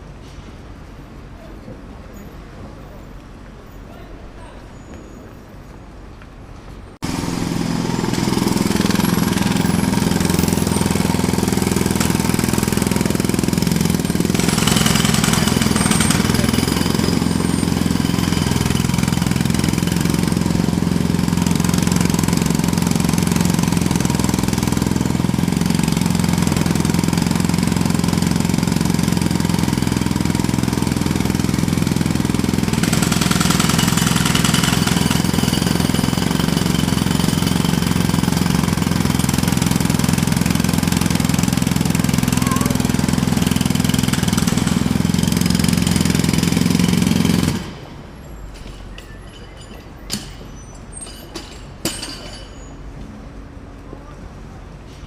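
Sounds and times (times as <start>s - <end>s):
jackhammer hammering: 7.0s - 52.8s.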